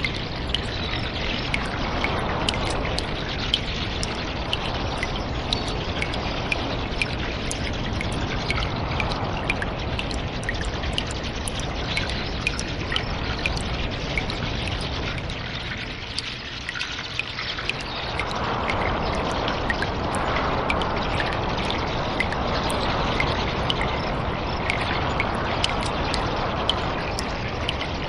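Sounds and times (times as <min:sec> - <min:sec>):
running water trickling: 0:00.0 - 0:28.0
water dripping: 0:00.0 - 0:28.0.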